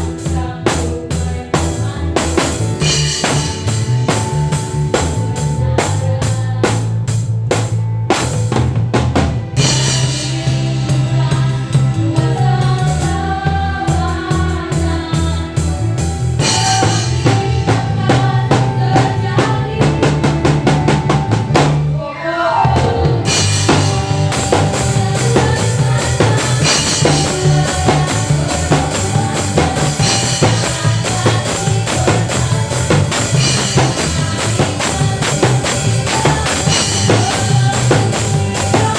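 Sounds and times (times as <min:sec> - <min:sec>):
drum kit beat: 0:00.0 - 0:22.0, 0:22.6 - 0:38.9
worship band playing: 0:00.0 - 0:38.9.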